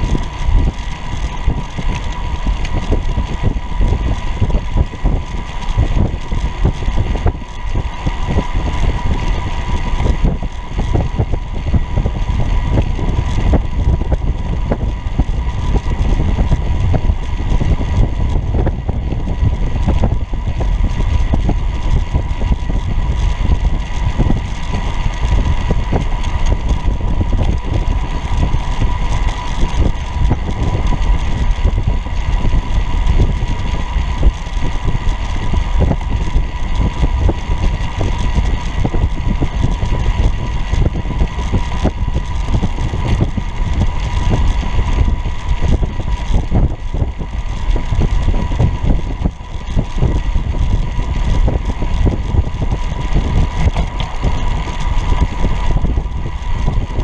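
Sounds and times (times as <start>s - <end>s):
thin whine: 0.0s - 57.0s
tyre and road rumble: 0.0s - 57.0s
wind buffeting: 0.0s - 57.0s.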